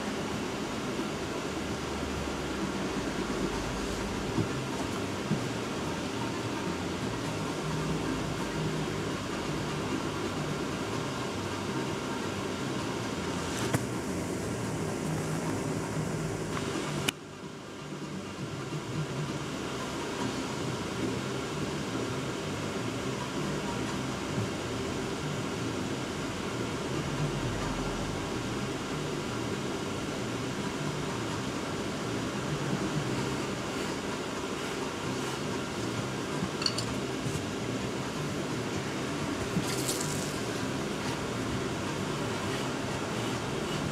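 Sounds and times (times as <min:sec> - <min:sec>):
ventilation fan hum: 0:00.0 - 0:43.9.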